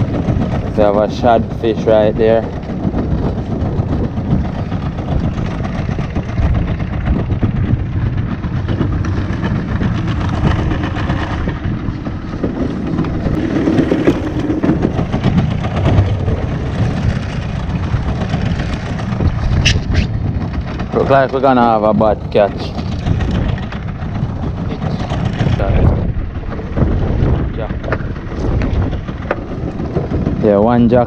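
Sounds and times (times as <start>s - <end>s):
outboard motor idling: 0.0s - 31.0s.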